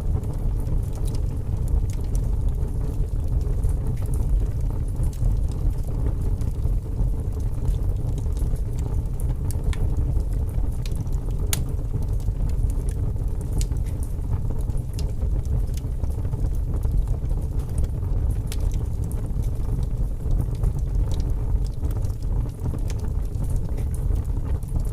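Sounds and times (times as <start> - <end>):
fire crackles and pops: 0.0 - 24.9
fire flames rumbling: 0.0 - 24.9.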